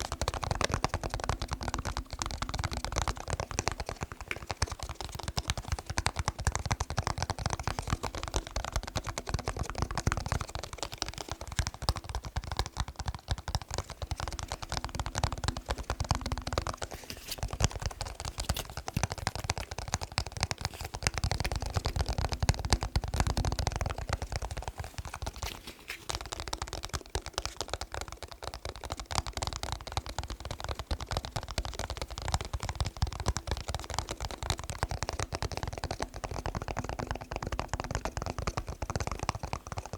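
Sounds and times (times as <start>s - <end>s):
fingers tapping on plastic remote: 0.0s - 39.9s.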